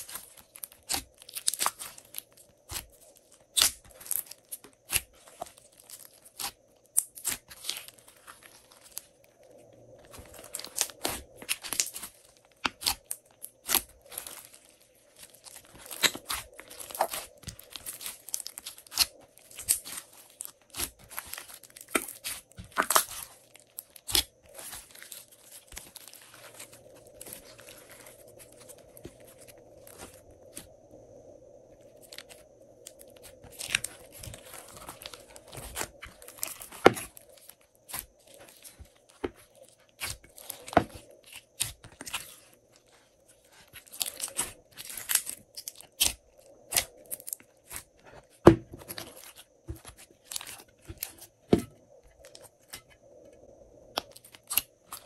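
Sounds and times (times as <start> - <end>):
slime crackling and popping: 0.0 - 9.1, 10.0 - 30.6, 32.0 - 42.5, 43.7 - 47.8, 53.9 - 55.0.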